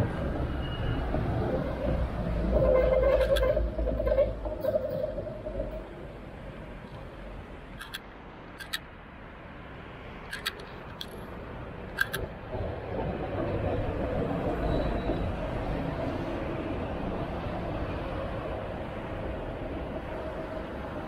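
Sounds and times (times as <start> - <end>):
tram rumbling on rails: 0.0 - 8.0, 10.2 - 21.0.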